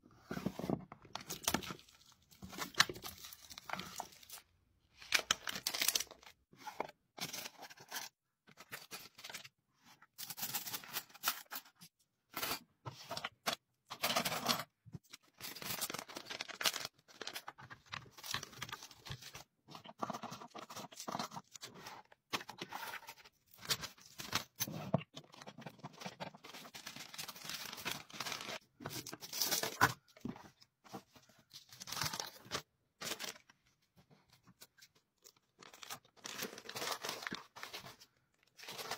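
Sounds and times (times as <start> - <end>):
plastic and paper crinkling: 0.3 - 9.5, 15.1 - 38.9.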